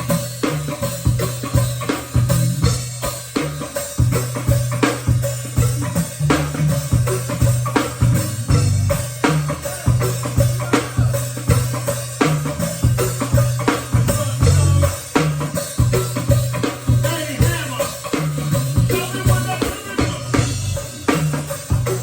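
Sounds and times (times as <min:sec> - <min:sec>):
drum kit: 0:00.0 - 0:22.0
hand percussion: 0:00.0 - 0:22.0
pulsing bass line: 0:00.0 - 0:22.0.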